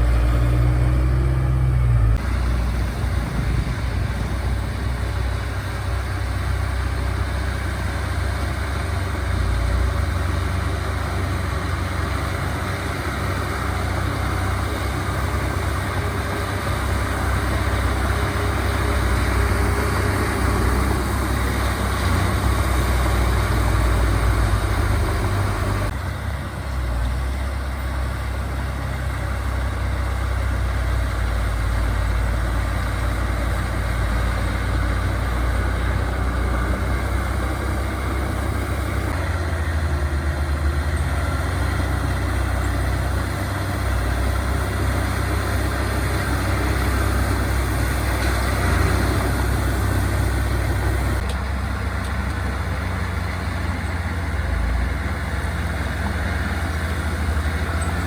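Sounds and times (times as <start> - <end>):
heavy diesel machines droning: 0.0 - 58.0.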